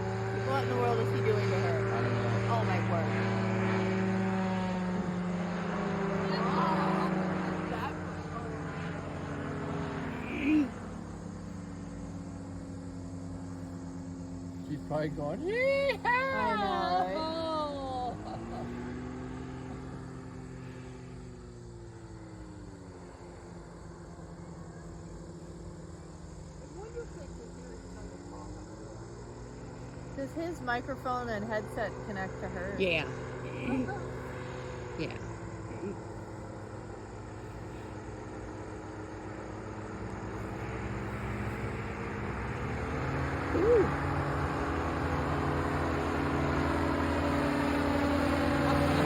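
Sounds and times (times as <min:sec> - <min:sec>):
distant small aircraft droning: 0:00.0 - 0:49.0
outdoor background hiss: 0:00.0 - 0:49.0.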